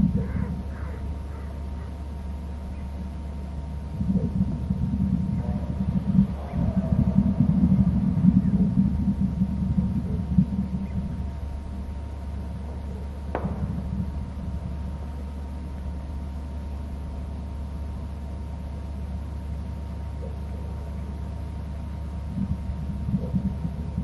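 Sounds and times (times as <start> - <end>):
faint whine: 0.0 - 24.0
low rumble: 0.0 - 24.0.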